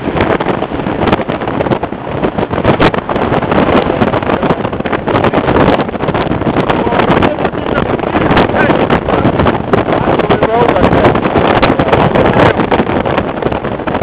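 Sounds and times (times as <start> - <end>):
car engine and road noise: 0.0 - 14.0
wind buffeting microphone: 0.0 - 14.0.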